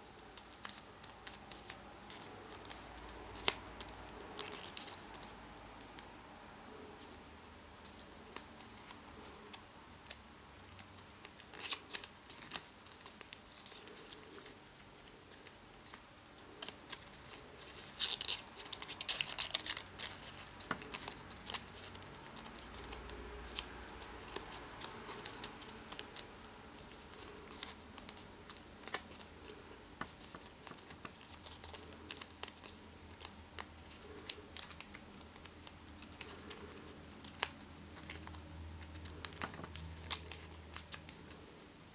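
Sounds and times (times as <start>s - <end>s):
paper being folded and crinkling: 0.0s - 6.1s, 7.8s - 41.5s.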